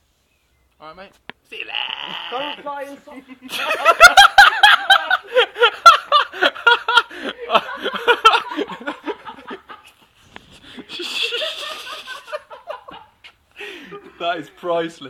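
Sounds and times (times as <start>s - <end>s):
men laughing: 1.6s - 14.9s.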